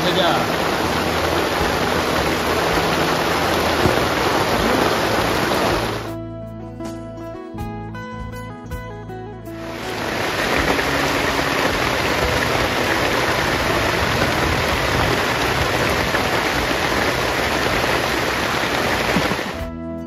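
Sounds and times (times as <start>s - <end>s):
rain on tarpaulin: 0.0s - 6.2s, 9.6s - 19.7s.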